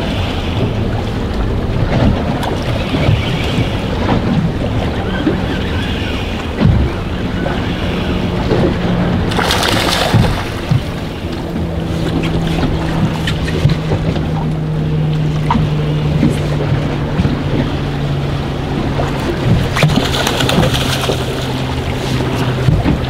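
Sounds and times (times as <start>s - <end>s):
boat motor idling: 0.0s - 23.0s
water lapping: 0.0s - 23.0s
wind on microphone: 0.0s - 23.0s.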